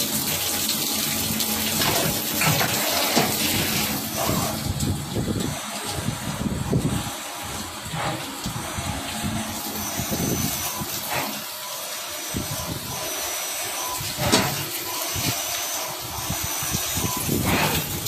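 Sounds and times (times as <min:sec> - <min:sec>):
machine rushing noise: 0:01.9 - 0:18.0.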